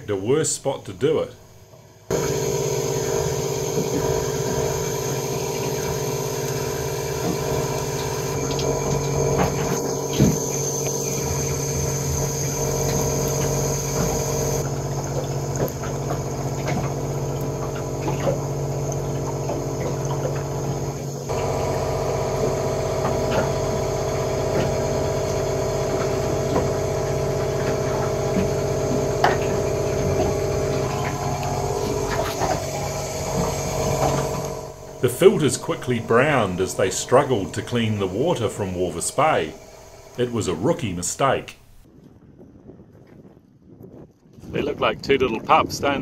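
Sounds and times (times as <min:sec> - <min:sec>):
pump hum: 0:01.4 - 0:41.9.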